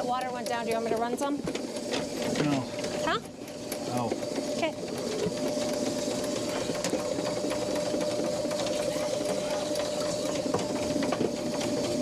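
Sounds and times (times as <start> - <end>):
cable ticking against pipe: 0.0 - 11.7
drain cleaner motor whine: 0.0 - 12.0.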